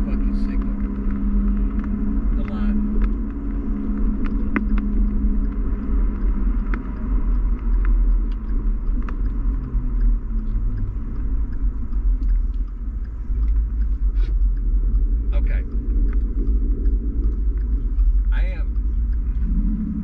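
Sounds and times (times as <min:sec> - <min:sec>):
car cabin rumble: 0:00.0 - 0:20.0
engine hum: 0:00.0 - 0:20.0.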